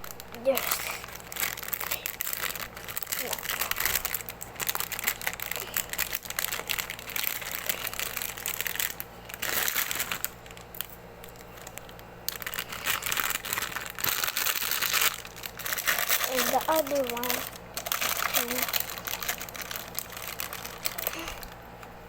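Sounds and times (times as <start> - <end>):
crinkling handling noise: 0.0 - 22.0.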